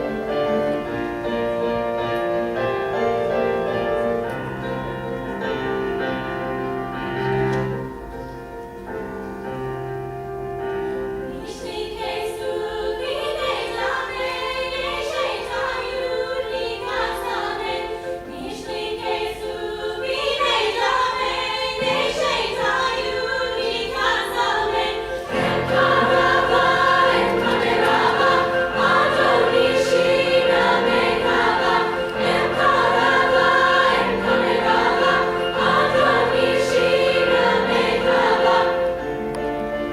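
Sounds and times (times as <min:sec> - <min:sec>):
women's choir singing: 0:00.0 - 0:08.4, 0:10.6 - 0:39.9
piano playing: 0:00.0 - 0:39.9.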